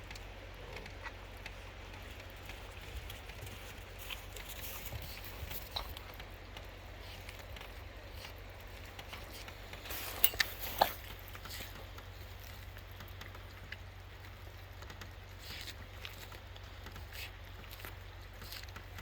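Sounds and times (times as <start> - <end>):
puppies chewing and scuffling: 0.0 - 19.0.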